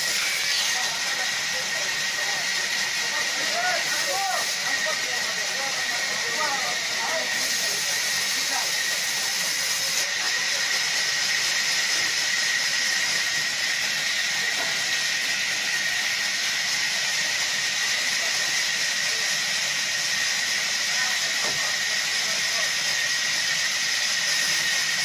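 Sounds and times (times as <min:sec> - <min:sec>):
band saw cutting log: 0:00.0 - 0:25.0.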